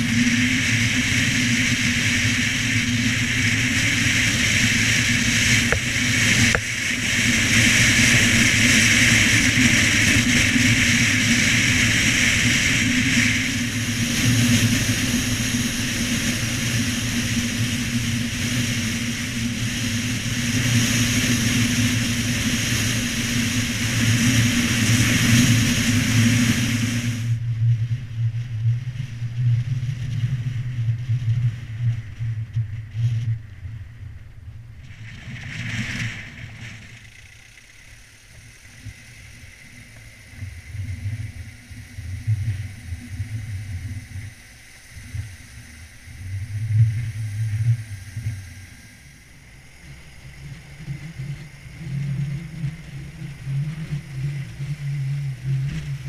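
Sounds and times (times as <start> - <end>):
engine and road drone: 0.0 - 56.0.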